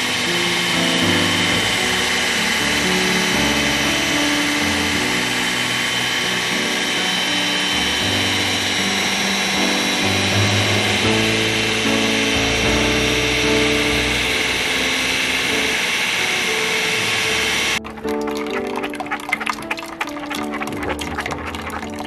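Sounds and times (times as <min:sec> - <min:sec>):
blender running: 0:00.0 - 0:19.0.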